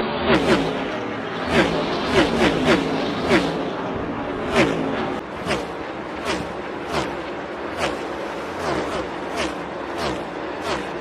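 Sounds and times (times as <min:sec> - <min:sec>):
race cars passing by: 0:00.0 - 0:11.0.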